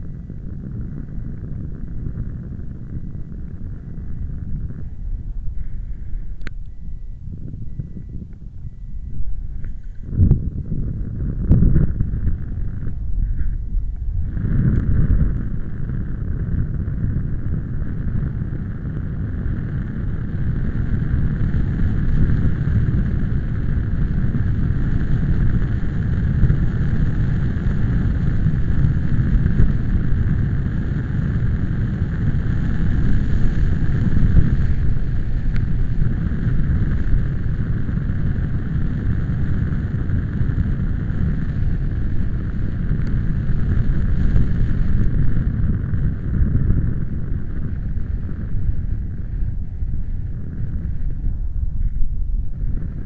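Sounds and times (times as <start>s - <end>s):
strong wind buffeting microphone: 0.0s - 53.0s.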